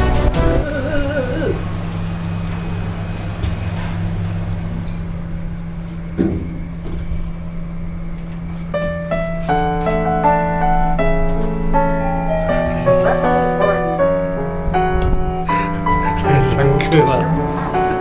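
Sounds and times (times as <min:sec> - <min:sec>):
constant low hum: 0:00.0 - 0:18.0
steady low rumble: 0:00.0 - 0:18.0.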